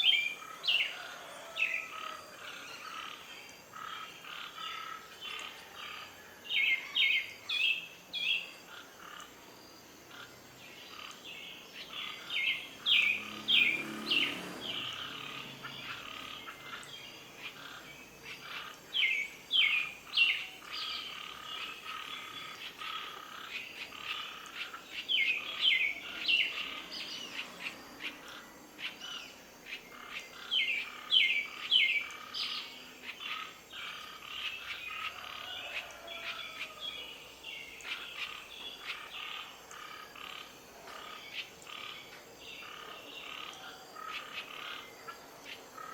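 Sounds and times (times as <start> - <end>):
background animal chorus: 0.0 - 45.9.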